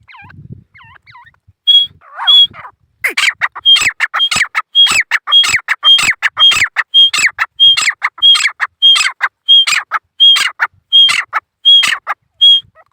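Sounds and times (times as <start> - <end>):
francolin calling: 0.0 - 12.9.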